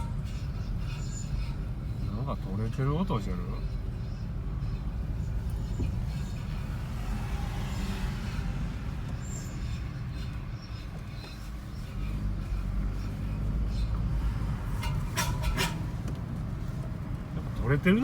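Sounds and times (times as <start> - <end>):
car engine low rumble: 0.0 - 18.0.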